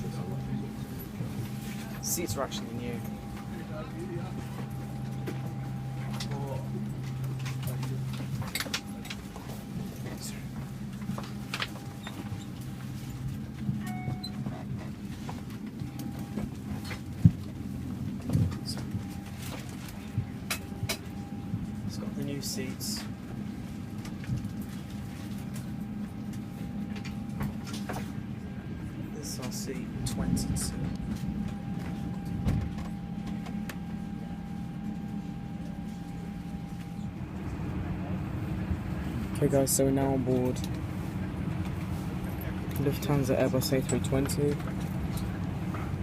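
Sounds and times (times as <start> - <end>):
faint steady whine: 0.0 - 46.0
low cabin hum: 0.0 - 46.0.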